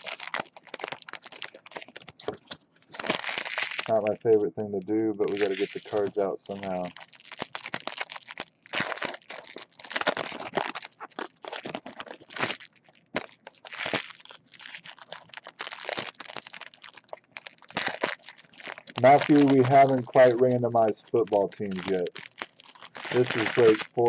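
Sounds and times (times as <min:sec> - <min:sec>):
card pack wrappers tearing: 0:00.0 - 0:24.0.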